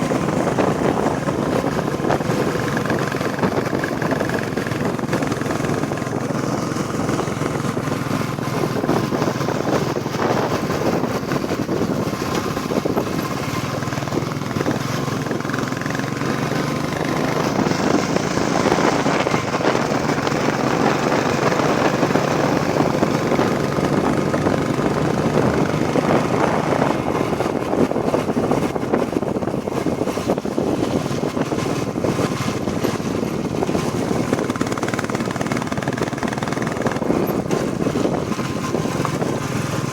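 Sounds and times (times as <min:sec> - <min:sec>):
broad rushing noise: 0:00.0 - 0:39.9
motorcycle engine running: 0:00.0 - 0:39.9.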